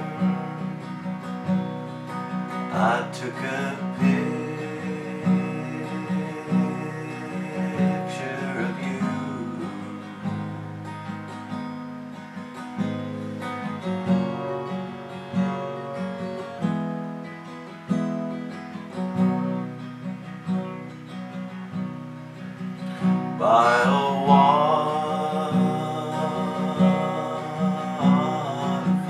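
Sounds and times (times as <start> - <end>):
acoustic guitar strummed: 0.0 - 29.0.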